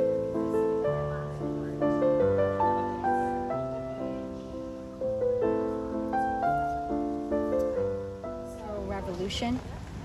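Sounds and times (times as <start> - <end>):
gentle piano music: 0.0 - 9.6.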